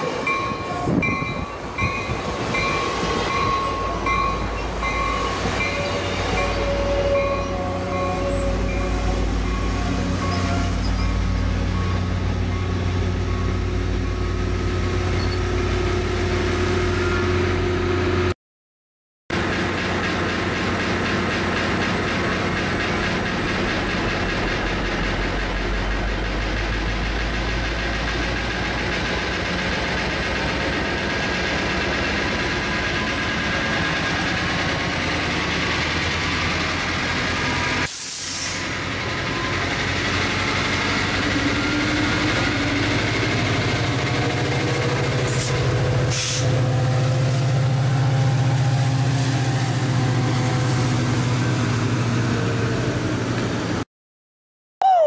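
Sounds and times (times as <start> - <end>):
diesel locomotive engine hum: 0.0 - 18.4, 19.3 - 53.8.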